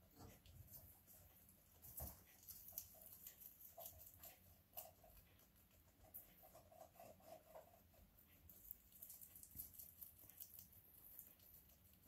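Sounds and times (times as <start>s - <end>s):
small animal chewing leaves: 0.1s - 12.0s.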